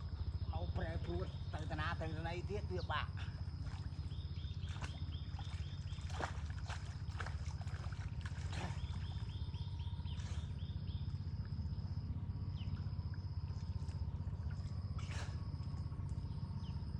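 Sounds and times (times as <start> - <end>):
bird chirping: 0.0 - 7.3, 8.5 - 16.9
insect trill: 0.0 - 16.9
low rumble: 0.0 - 16.9.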